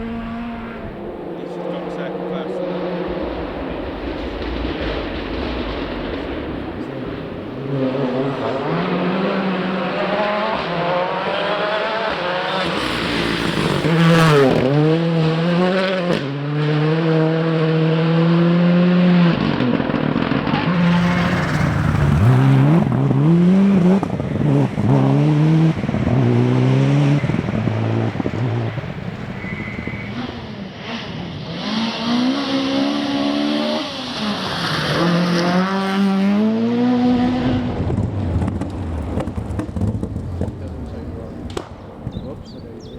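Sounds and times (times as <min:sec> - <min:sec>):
rally car engine accelerating: 0:00.0 - 0:42.9.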